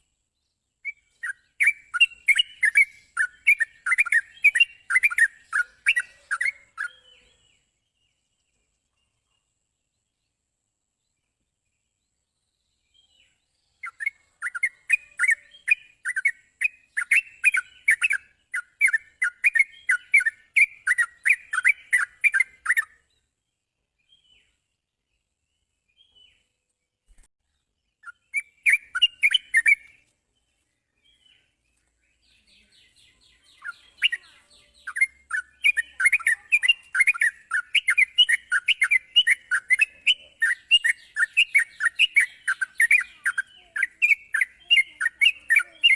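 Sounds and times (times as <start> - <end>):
bird chattering song: 0.0 - 9.5, 12.1 - 45.9.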